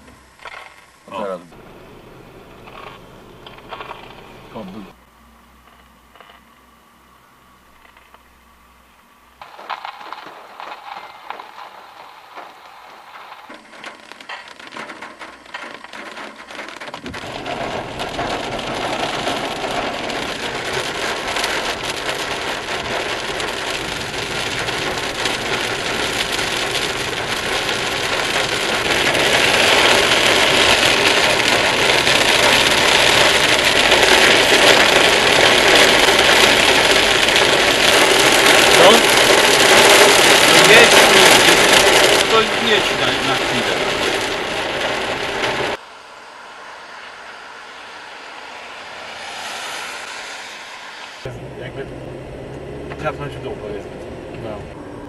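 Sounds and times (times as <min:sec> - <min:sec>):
heavy rain drumming on car roof: 0:00.0 - 0:05.0, 0:09.4 - 0:45.8, 0:51.2 - 0:55.0
road and engine noise: 0:00.0 - 0:55.0.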